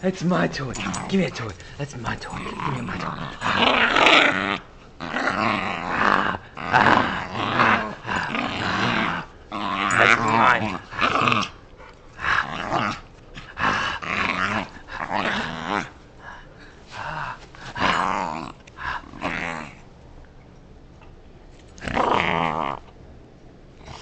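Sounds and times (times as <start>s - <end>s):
puppy growling: 0.4s - 19.9s, 21.8s - 22.9s.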